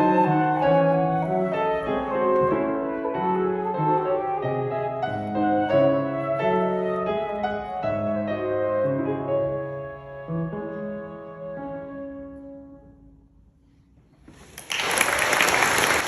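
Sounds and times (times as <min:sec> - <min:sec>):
classical piano playing: 0:00.0 - 0:13.5.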